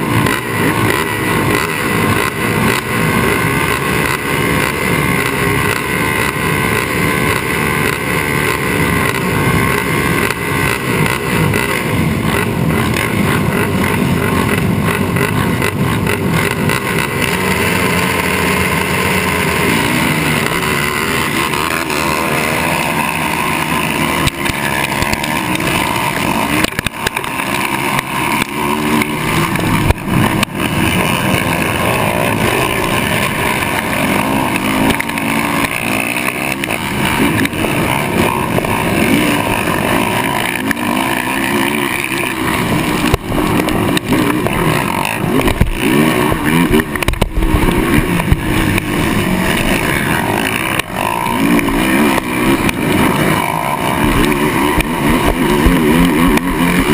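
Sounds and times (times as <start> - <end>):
other racing engines: 0.0 - 56.9
quad engine revving hard: 0.0 - 56.9.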